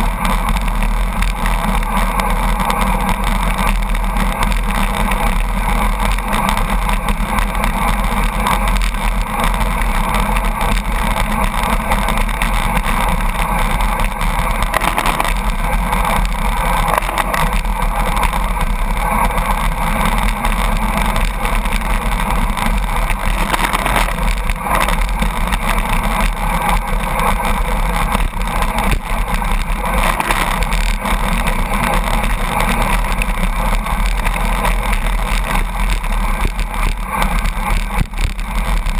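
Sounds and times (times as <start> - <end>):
rushing wind: 0.0 - 38.9
truck engine and tyres drone: 0.0 - 38.9.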